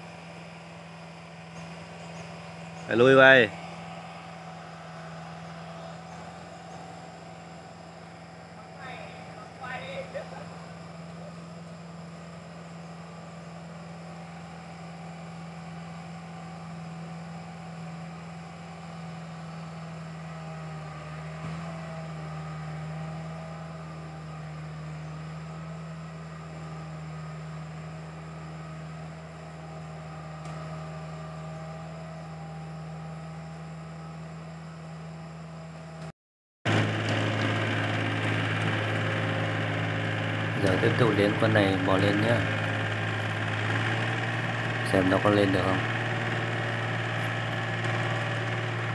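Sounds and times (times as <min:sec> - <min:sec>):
tractor engine humming: 0:00.0 - 0:36.1, 0:36.7 - 0:48.9.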